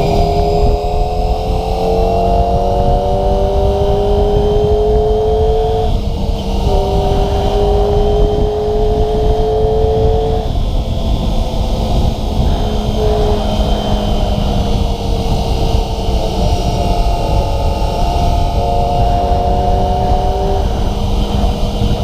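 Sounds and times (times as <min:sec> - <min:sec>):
gear upshift: 0:00.0 - 0:22.0
motorcycle engine accelerating: 0:00.0 - 0:22.0
wind rush on microphone: 0:00.0 - 0:22.0.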